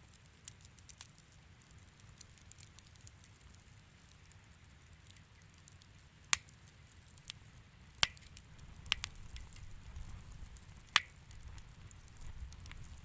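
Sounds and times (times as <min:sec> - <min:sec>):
fire crackling in fireplace: 0:00.0 - 0:13.0.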